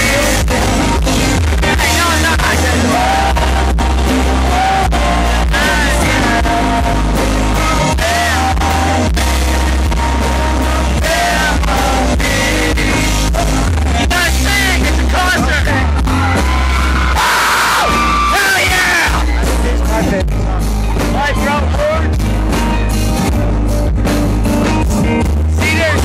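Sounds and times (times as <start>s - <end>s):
man singing: 0.0s - 16.7s, 17.4s - 22.2s, 24.8s - 26.0s
live country band: 0.0s - 26.0s.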